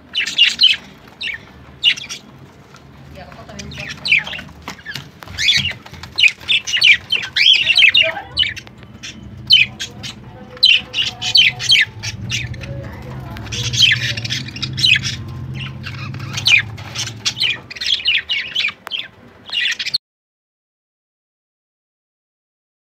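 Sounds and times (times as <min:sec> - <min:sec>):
low steady hum: 0:00.0 - 0:19.5
budgerigars chattering and squawking: 0:00.0 - 0:20.0.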